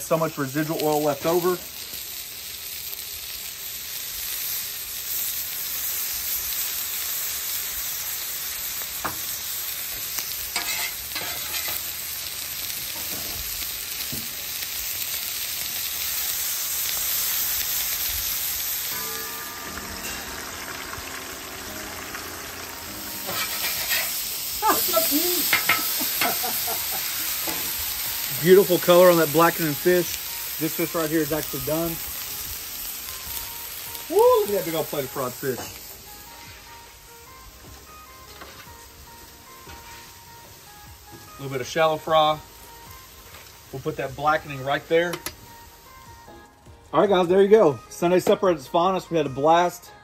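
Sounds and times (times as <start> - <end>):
fish sizzling on griddle: 0.0 - 48.9.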